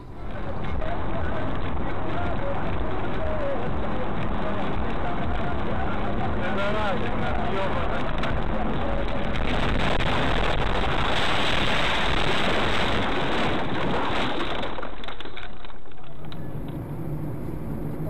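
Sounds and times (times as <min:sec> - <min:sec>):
low hum: 0:00.0 - 0:18.0
moving car road noise: 0:00.0 - 0:18.0.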